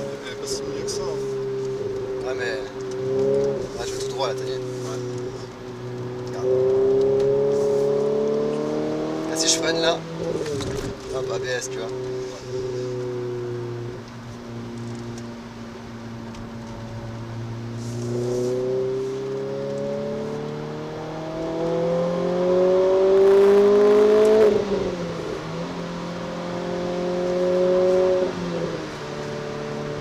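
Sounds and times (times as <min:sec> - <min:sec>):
car engine revving from inside cabin: 0:00.0 - 0:30.0.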